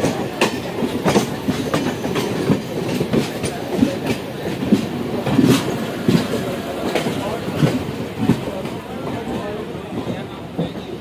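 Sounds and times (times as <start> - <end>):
train rumble: 0.0 - 11.0
train wheels clattering over rail joints: 0.0 - 11.0.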